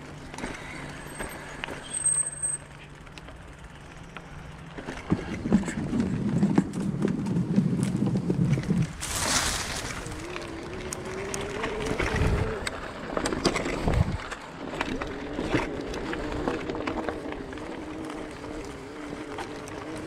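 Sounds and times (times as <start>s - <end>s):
electric bike motor whining: 0.0s - 20.0s
tyres crackling over dirt: 0.0s - 20.0s.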